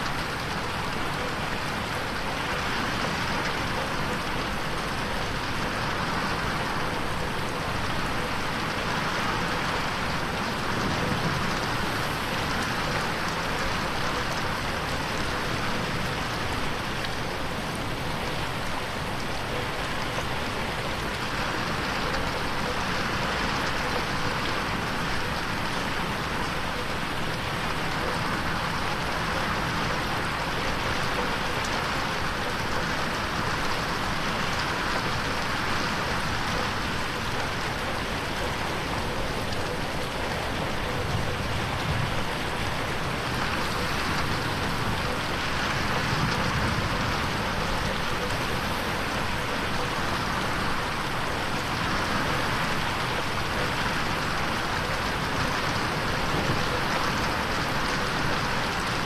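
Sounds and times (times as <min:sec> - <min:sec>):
rain against a window: 0:00.0 - 0:59.0.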